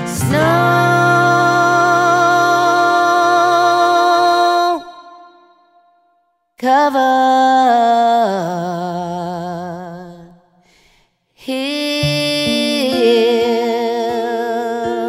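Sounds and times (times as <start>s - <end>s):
wordless singing with vibrato: 0.0s - 15.0s.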